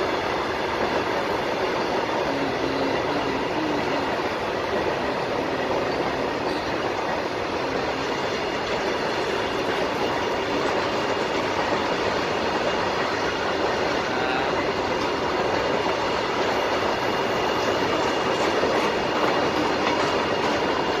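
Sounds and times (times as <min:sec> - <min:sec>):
freight train rolling on rails: 0:00.0 - 0:21.0.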